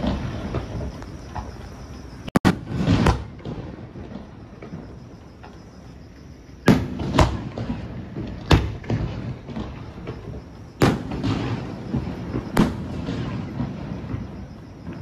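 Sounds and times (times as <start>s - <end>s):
rolling rumble: 0.0s - 15.0s.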